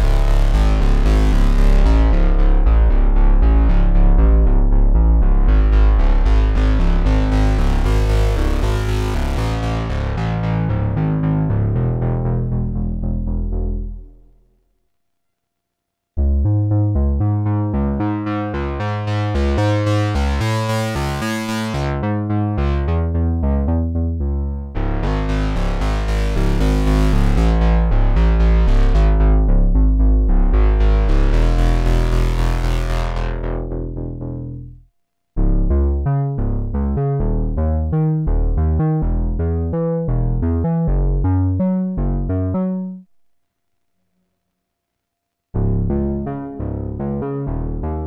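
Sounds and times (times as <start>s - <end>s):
synthesizer bass notes: 0.0s - 14.5s, 16.2s - 43.1s, 45.6s - 48.0s.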